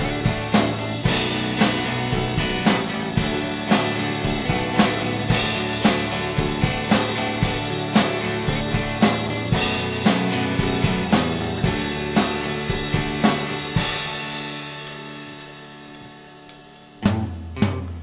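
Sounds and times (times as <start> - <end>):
drum kit beat: 0.0 - 18.0
indie rock band: 0.0 - 18.0.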